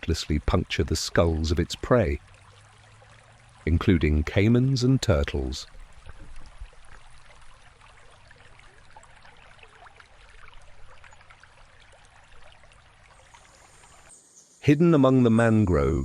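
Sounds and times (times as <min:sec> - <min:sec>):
faint trickling water: 0:00.0 - 0:14.1
water drips and splashes: 0:00.0 - 0:14.1.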